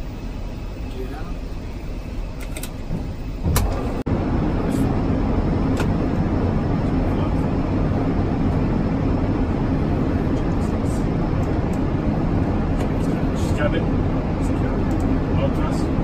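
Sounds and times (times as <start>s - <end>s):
engine and airflow rumble: 0.0s - 16.0s.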